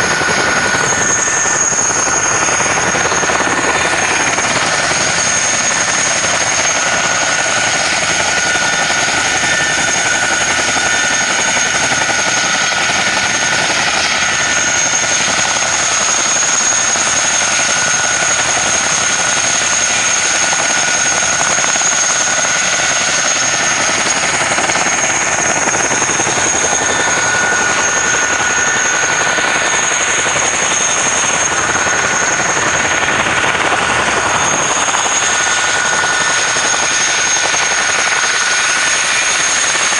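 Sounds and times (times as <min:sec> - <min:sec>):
helicopter turbine and rotor noise: 0:00.0 - 0:39.9
high-pitched whines: 0:00.0 - 0:39.9.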